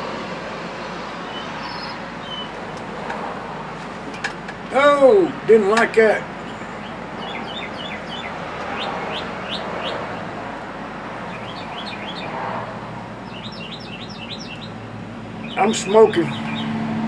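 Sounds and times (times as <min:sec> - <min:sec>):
songbirds chirping: 0:00.9 - 0:17.0.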